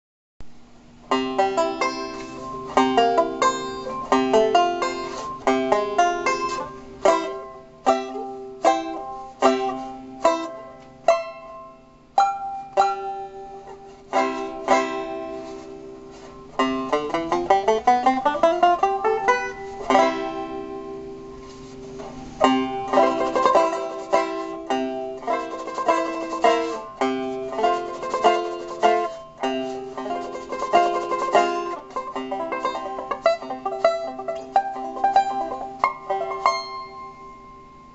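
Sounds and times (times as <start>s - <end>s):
banjo strummed chords: 1.1s - 37.9s.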